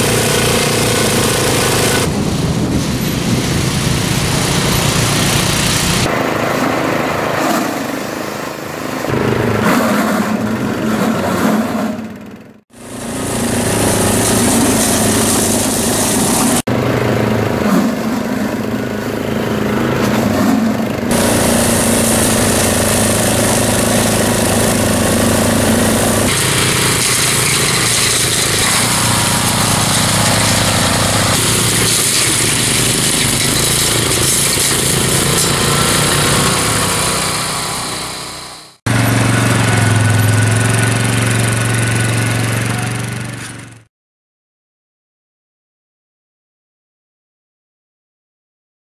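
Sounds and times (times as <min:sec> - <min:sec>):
brush cutter engine running: 0:00.0 - 0:09.7, 0:12.8 - 0:43.8
quad bike engine: 0:00.0 - 0:43.9.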